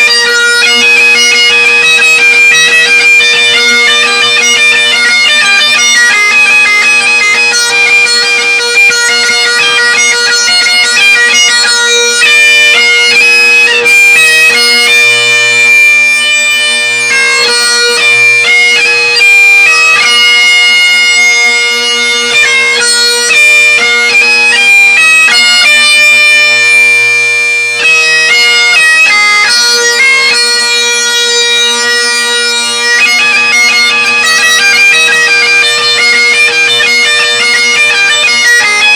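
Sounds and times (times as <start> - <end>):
bagpipes playing: 0.0 - 38.9.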